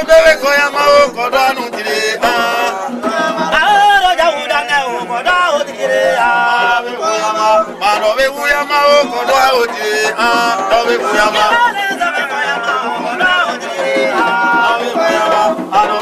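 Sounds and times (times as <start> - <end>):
man singing chant-like song: 0.0 - 16.0.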